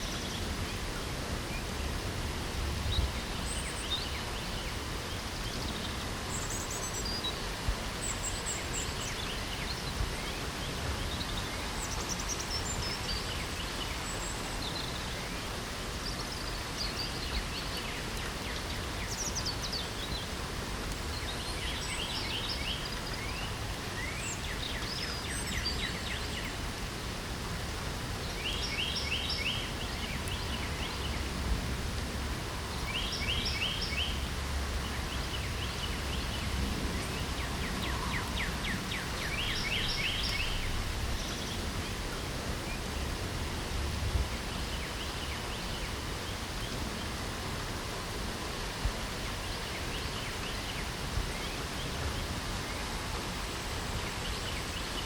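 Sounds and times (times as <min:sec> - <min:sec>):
light rain hissing: 0:00.0 - 0:55.0
songbirds chirping: 0:00.0 - 0:55.0.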